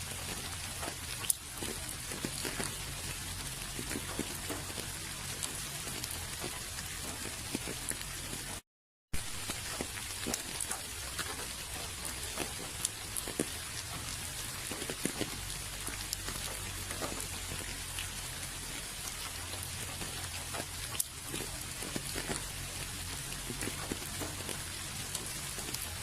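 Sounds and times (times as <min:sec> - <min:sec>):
steady rain with tapping drops: 0:00.0 - 0:08.6, 0:09.2 - 0:26.0.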